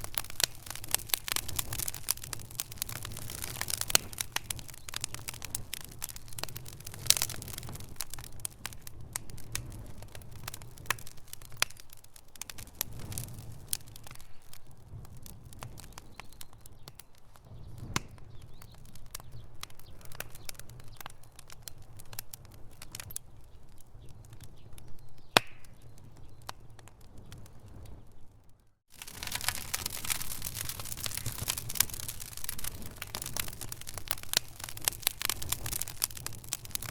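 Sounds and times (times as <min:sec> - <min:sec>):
burning wood crackling and popping: 0:00.0 - 0:36.9
low rumble of flames: 0:00.0 - 0:36.9.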